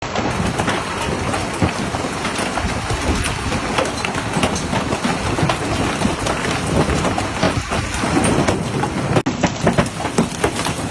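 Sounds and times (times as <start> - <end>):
hailstones clattering: 0.0 - 10.9
steady rushing storm noise: 0.0 - 10.9.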